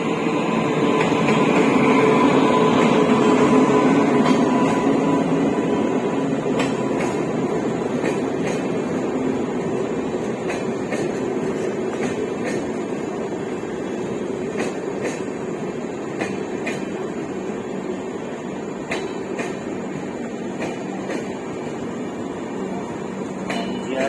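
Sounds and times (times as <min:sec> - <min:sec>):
train coaches rumbling past: 0:00.0 - 0:24.0.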